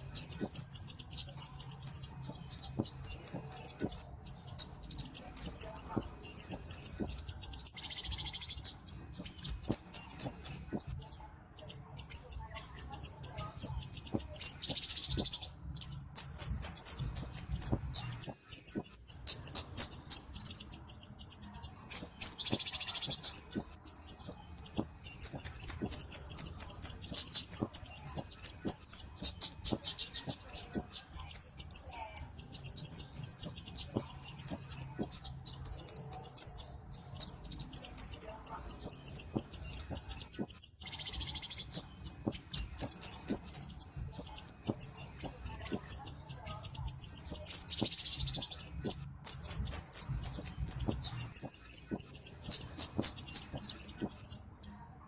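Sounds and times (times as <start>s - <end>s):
bird high ticking chirps: 0.0s - 55.0s.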